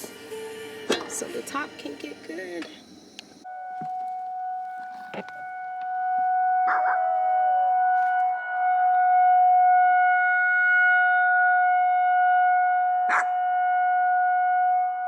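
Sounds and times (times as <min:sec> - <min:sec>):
warning siren steady tone: 0:00.0 - 0:15.0.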